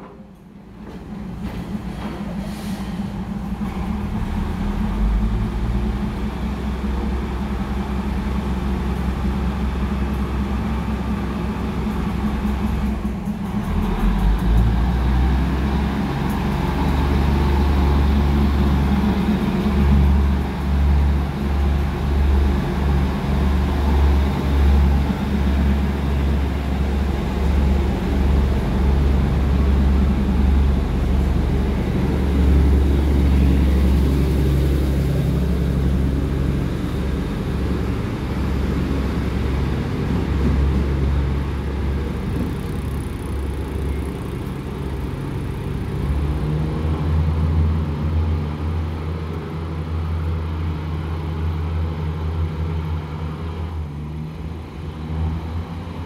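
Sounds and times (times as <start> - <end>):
diesel train rumbling: 0.0 - 56.0.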